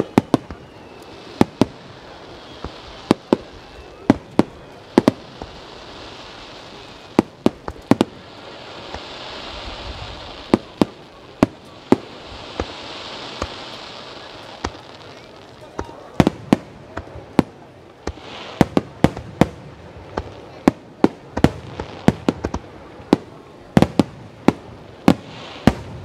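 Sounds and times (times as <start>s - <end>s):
firework hiss: 0.0s - 26.0s.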